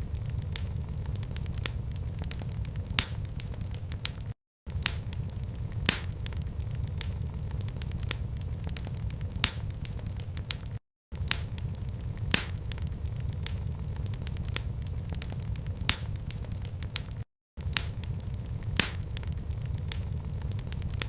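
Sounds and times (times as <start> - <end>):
sharp pops of fire: 0.0 - 21.0
wood fire crackling: 0.0 - 21.0.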